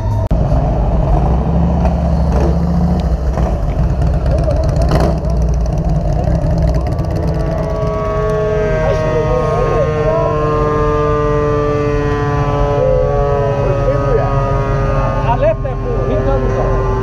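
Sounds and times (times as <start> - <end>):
vehicle engines at low speed: 0.0 - 17.0.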